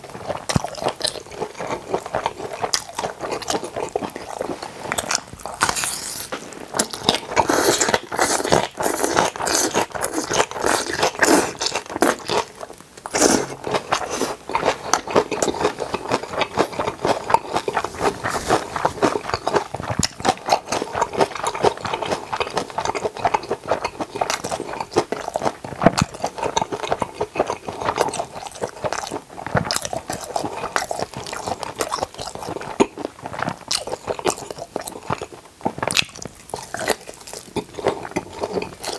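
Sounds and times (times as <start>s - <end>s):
crisp wet chewing crunches: 0.0s - 38.9s.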